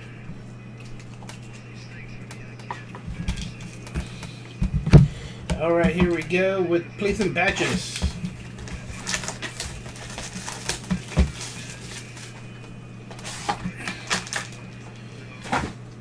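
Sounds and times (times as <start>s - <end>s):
low electrical hum: 0.0s - 16.0s
cards clicking and tapping on table: 0.8s - 6.4s, 7.0s - 14.6s.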